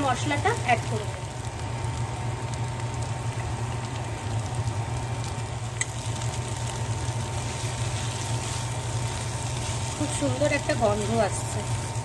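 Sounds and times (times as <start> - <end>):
filling sizzling in oil: 0.0 - 12.0
low steady hum: 0.0 - 12.0.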